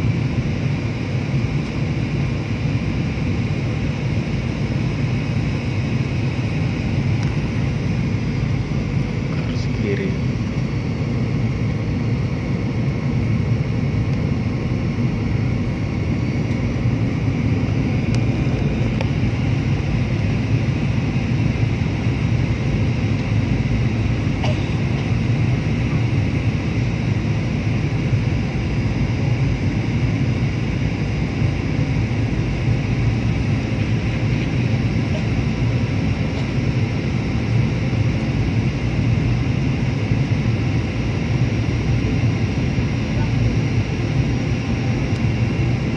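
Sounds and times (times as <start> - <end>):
aircraft cabin drone: 0.0 - 45.9.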